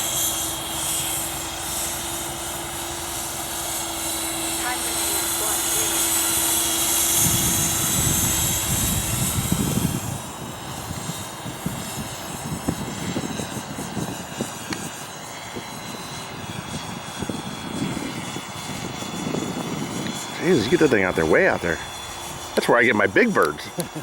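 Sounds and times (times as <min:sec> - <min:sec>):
model helicopter rotor whine: 0:00.0 - 0:24.0.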